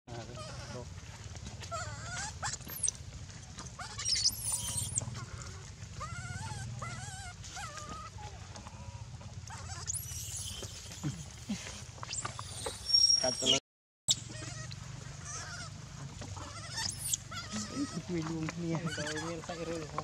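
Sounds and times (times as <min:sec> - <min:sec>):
infant monkey whimpering and squealing: 0:00.1 - 0:00.8, 0:01.6 - 0:03.0, 0:03.6 - 0:08.2, 0:09.5 - 0:15.8, 0:16.4 - 0:20.0.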